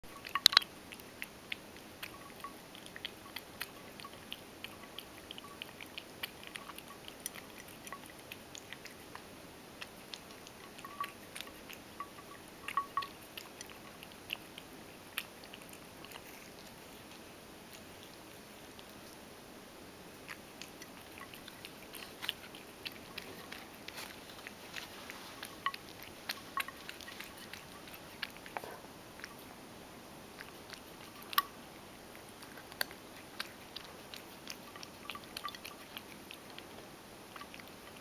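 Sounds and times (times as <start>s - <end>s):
cat chewing and crunching: 0.0s - 38.0s.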